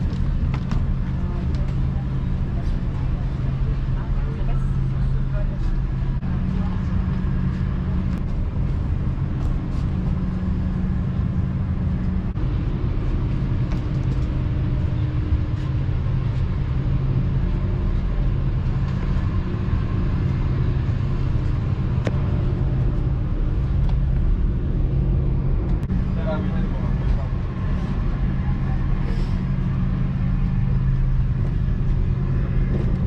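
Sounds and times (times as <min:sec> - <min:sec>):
aircraft cabin ventilation hum: 0:00.0 - 0:33.0.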